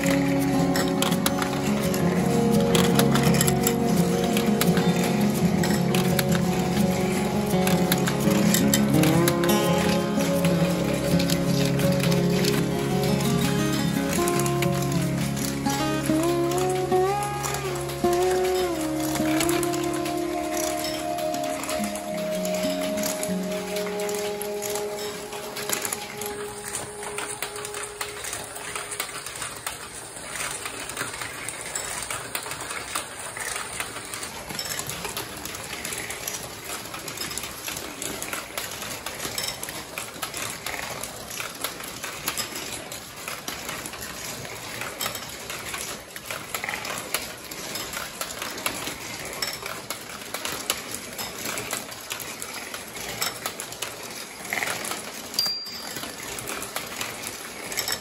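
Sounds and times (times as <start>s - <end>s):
marbles rattling through marble run: 0.0s - 58.0s.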